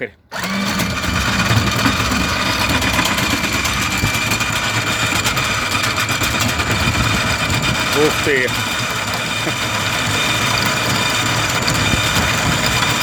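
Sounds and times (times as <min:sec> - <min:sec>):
electric windlass motor whining: 0:00.3 - 0:13.0.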